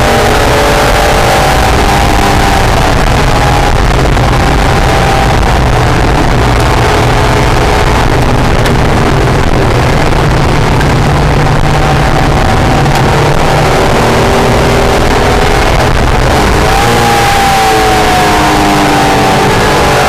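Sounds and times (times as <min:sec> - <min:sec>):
car engine running at speed: 0:00.0 - 0:20.0.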